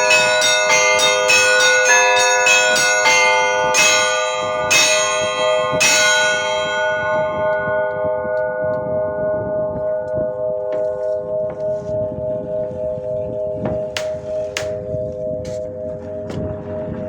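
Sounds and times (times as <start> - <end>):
church bells ringing: 0.0 - 13.9.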